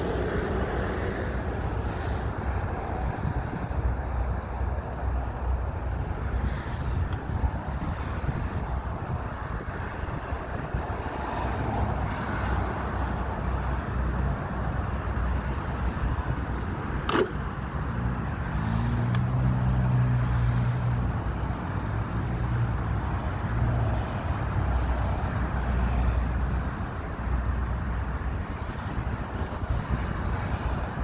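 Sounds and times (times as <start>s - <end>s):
road traffic: 0.0s - 31.0s
vehicle engine hum: 0.0s - 31.0s.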